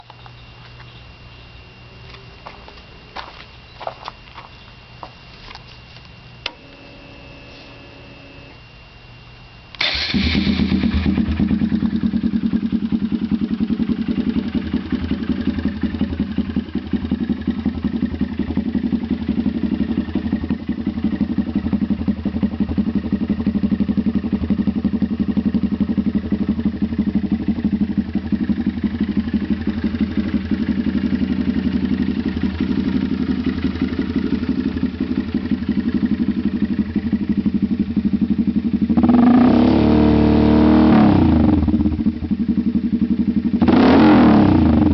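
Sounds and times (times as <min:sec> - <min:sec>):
motorcycle engine idling and revving: 0:01.9 - 0:05.6, 0:09.8 - 0:44.9.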